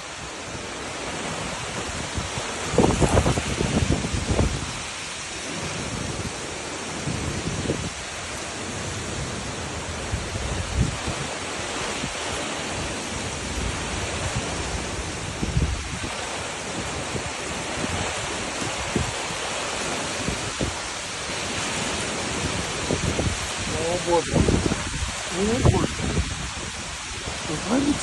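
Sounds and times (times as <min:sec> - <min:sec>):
storm wind rushing: 0:00.0 - 0:28.0
wind gusts buffeting microphone: 0:00.0 - 0:28.0.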